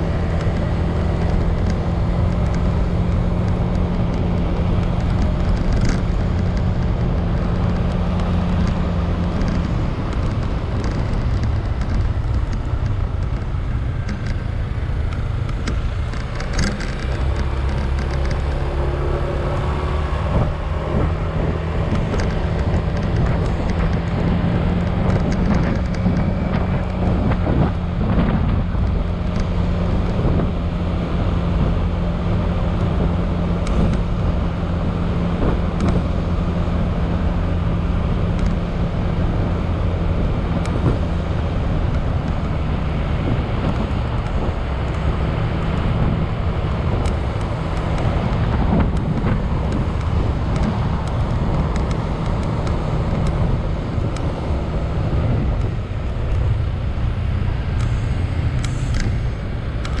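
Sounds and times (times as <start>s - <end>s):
wind and road noise: 0.0s - 60.0s.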